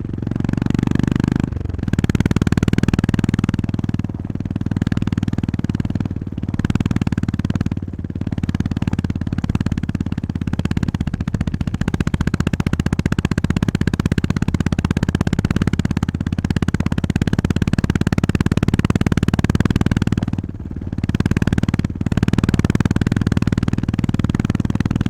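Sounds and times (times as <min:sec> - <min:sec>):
motorcycle engine thumping: 0:00.0 - 0:25.0.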